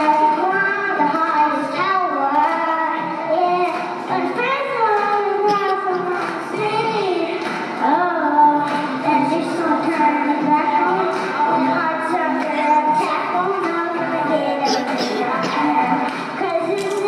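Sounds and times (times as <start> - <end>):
boy singing into microphone: 0.0 - 17.0
recorded backing music: 0.0 - 17.0.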